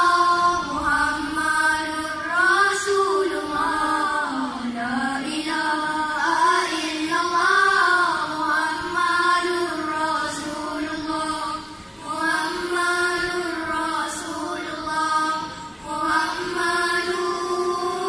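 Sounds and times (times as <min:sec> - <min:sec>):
boys singing together: 0:00.0 - 0:18.0.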